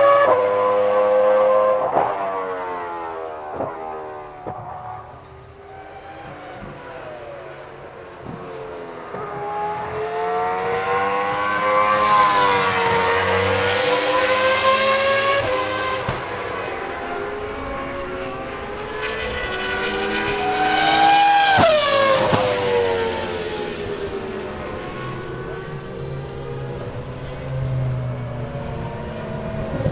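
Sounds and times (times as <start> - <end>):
racing car engine at high revs: 0.0 - 29.9.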